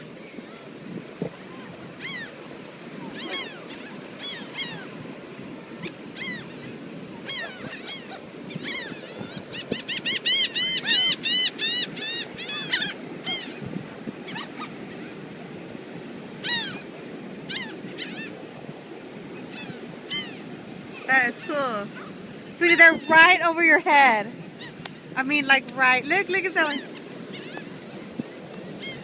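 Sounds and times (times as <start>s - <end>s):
seagulls calling: 0.0s - 15.5s, 16.2s - 29.0s
surf washing: 0.0s - 29.0s.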